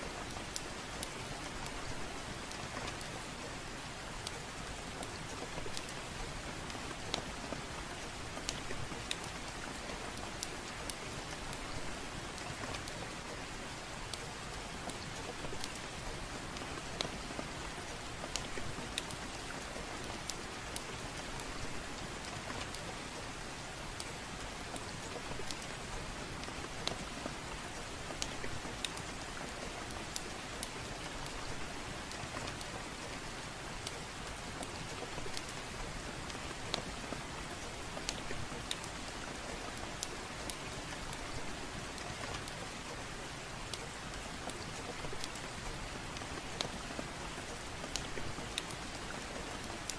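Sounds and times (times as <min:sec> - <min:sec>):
soft steady rain: 0:00.0 - 0:49.9.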